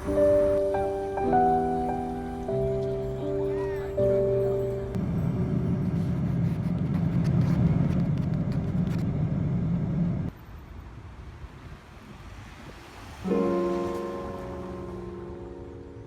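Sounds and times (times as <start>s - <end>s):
city road traffic rumble: 0.0s - 16.0s
faint outdoor background noise: 0.0s - 16.0s.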